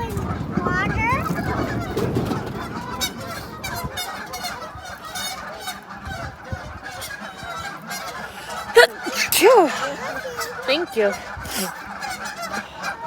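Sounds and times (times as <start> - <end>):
waterfowl calling: 0.0 - 13.0.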